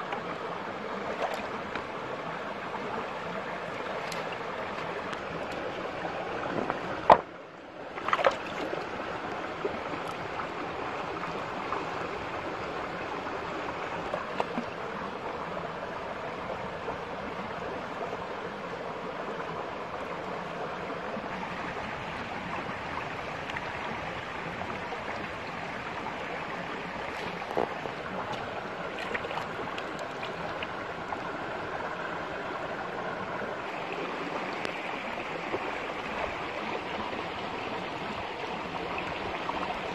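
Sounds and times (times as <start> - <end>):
rocky stream running: 0.0 - 39.9.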